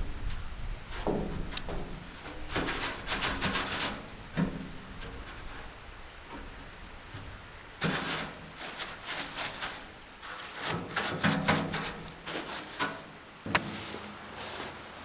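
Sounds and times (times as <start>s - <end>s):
hands and tools scraping and knocking: 0.9s - 15.0s.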